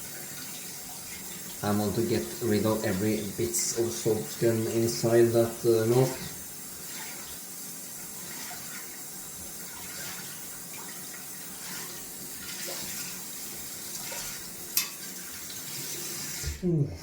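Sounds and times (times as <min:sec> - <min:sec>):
tap water running into sink: 0:00.0 - 0:16.6.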